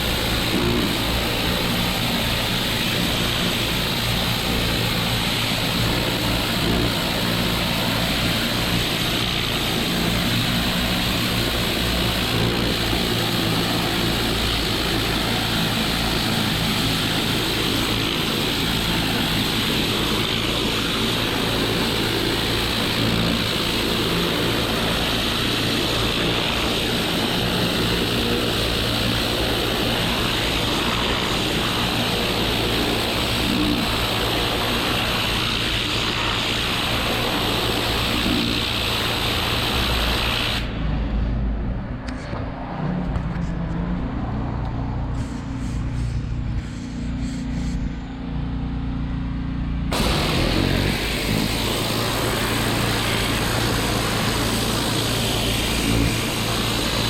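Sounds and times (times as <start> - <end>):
water spray hissing: 0.0 - 40.7, 45.2 - 47.9, 49.9 - 57.0
pressure washer engine running: 0.0 - 40.9, 45.0 - 57.0.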